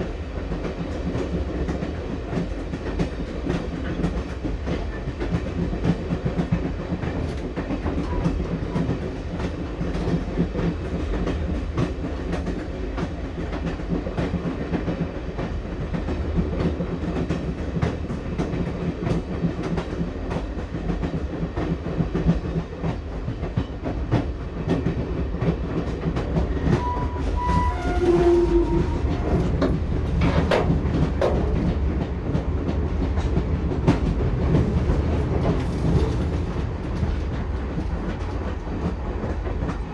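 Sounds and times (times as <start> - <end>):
train low rumble: 0.0 - 39.9
train wheels clattering over rail joints: 0.4 - 39.9.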